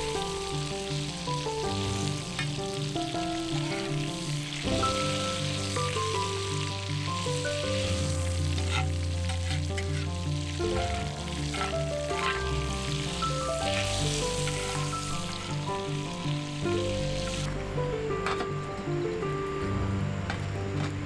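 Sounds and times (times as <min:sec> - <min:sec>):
food sizzling in a frying pan: 0:00.0 - 0:18.4.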